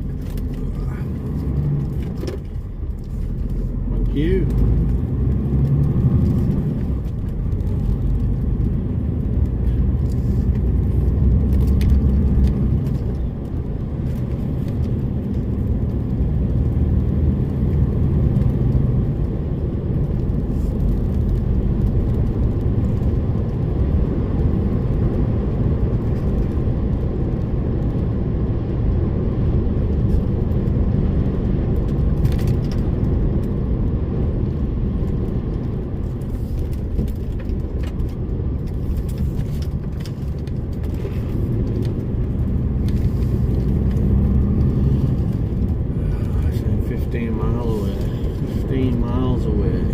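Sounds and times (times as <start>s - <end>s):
lorry diesel engine rumble: 0.0s - 49.9s.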